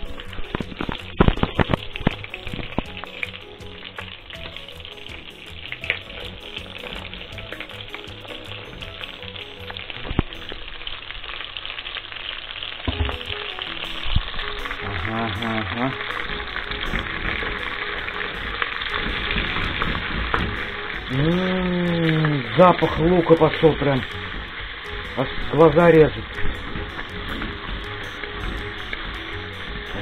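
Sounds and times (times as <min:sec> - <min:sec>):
meat frying in hot oil: 0:00.0 - 0:30.0.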